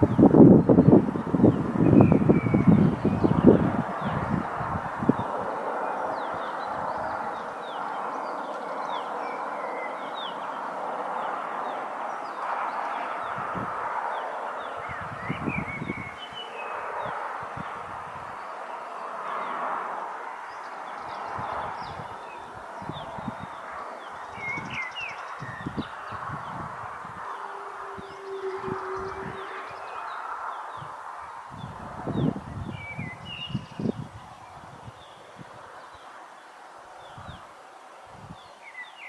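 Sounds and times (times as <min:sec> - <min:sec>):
wind buffeting microphone: 0:00.0 - 0:36.0, 0:37.0 - 0:38.5.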